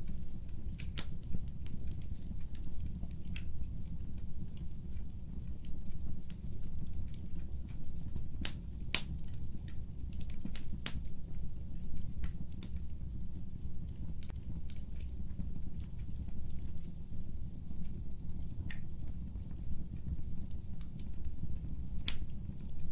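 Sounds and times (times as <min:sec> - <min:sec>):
fire crackling: 0:00.0 - 0:22.9
low fire rumble: 0:00.0 - 0:22.9.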